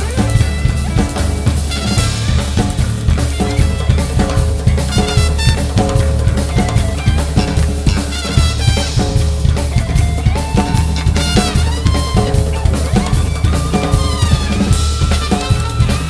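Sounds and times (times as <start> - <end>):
band playing: 0.0 - 16.0
drum kit playing a groove: 0.0 - 16.0
melodic instrument lines: 0.0 - 16.0.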